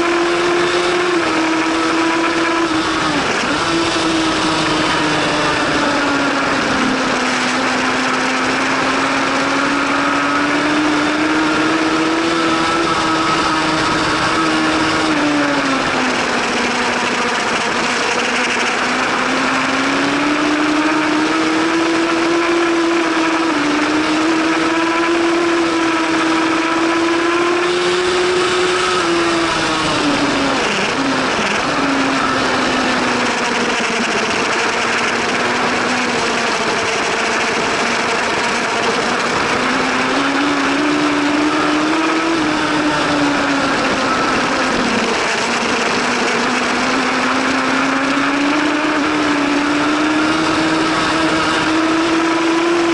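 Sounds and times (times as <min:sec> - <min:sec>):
motorcycle engine at high revs: 0:00.0 - 0:52.9.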